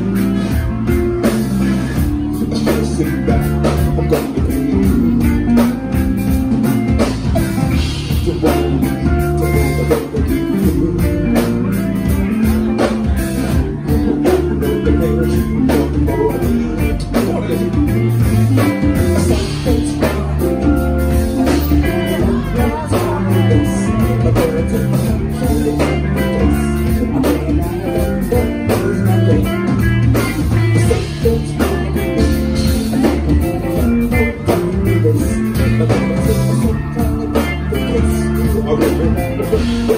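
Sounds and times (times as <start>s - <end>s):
drum kit: 0.0s - 39.9s
electric guitar: 0.0s - 39.9s
man singing: 0.0s - 39.9s.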